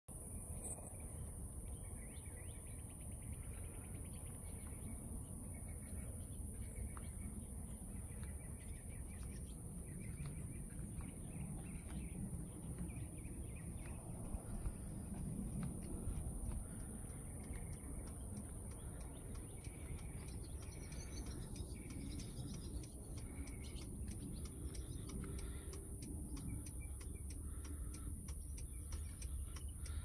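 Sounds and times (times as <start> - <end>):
low rumbling background noise: 0.1 - 30.0
birds chirping: 0.6 - 30.0.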